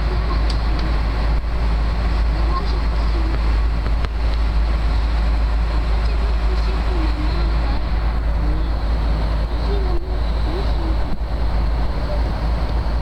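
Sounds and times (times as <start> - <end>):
airliner cabin noise in flight: 0.0 - 13.0.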